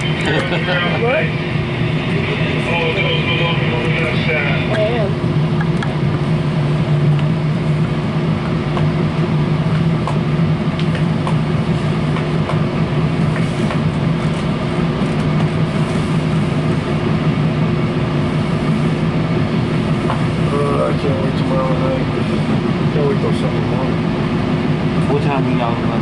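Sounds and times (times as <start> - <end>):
low hum: 0.0 - 26.0
train running rumble: 0.0 - 26.0.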